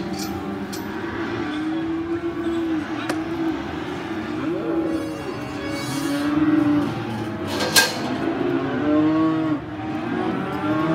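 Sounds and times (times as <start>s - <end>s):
cattle mooing: 1.3s - 10.9s.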